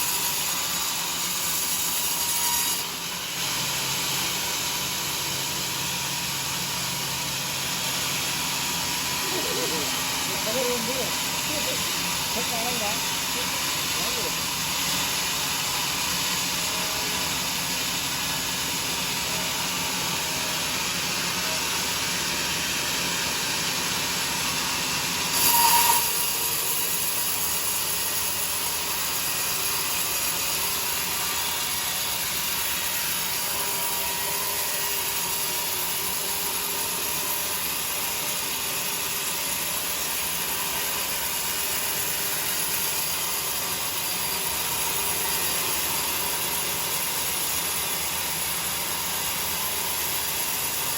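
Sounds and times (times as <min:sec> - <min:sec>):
sawmill cutting log: 0:00.0 - 0:50.9.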